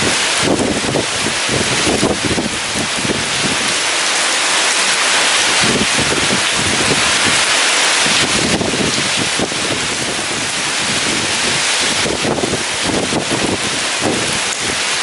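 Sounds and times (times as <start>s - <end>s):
heavy rain pouring: 0.0s - 15.0s
strong wind gusting: 0.0s - 15.0s.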